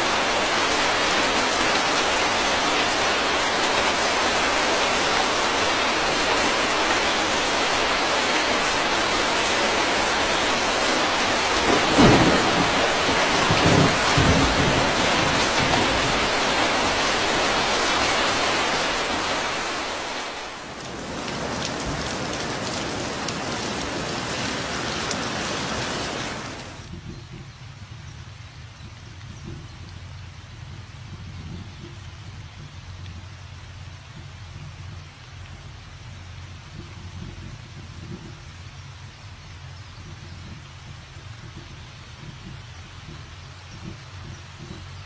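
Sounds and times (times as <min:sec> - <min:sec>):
heavy rain pouring: 0:00.0 - 0:45.0
thunder rumbling: 0:00.0 - 0:45.0.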